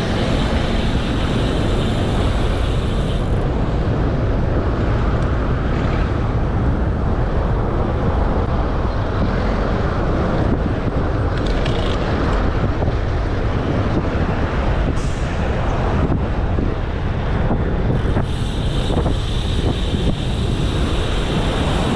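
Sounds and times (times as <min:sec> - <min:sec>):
wind noise on microphone: 0:00.0 - 0:21.9.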